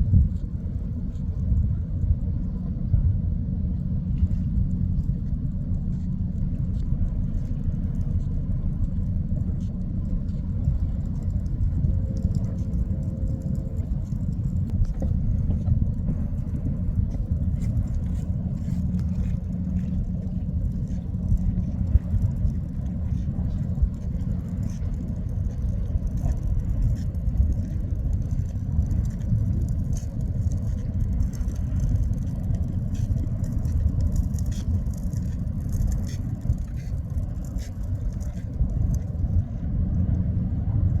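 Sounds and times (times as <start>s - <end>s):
ship low rumble: 0.0s - 41.0s.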